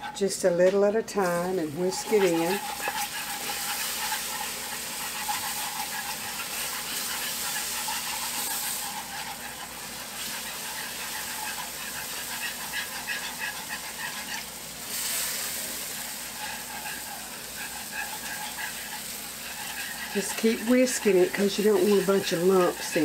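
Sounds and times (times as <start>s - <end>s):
whisk stirring in pan: 0.0s - 23.0s
liquid sizzling in hot pan: 1.3s - 23.0s.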